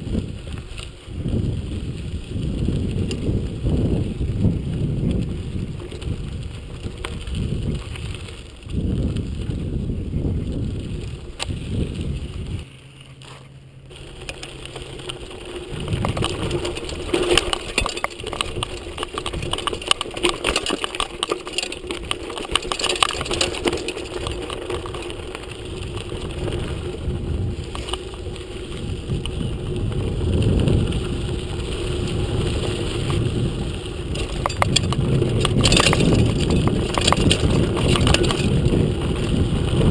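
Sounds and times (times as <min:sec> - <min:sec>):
wind rumbling on microphone: 0:00.0 - 0:12.8, 0:13.9 - 0:39.9
bike rattling: 0:00.0 - 0:39.9
tyres crunching on loose stones: 0:00.0 - 0:39.9.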